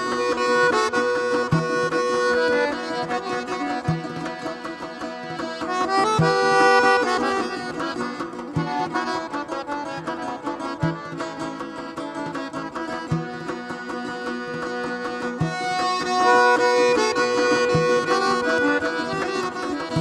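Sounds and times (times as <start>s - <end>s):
instrumental music with held notes: 0.0s - 20.0s
low beat: 0.0s - 20.0s.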